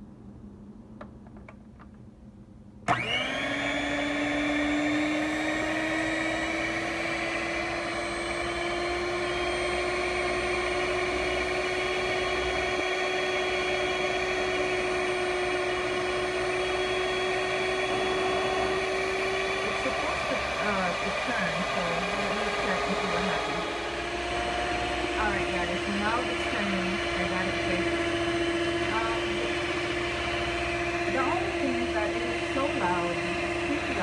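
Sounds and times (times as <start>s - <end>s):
stand mixer motor whine: 2.9s - 34.0s.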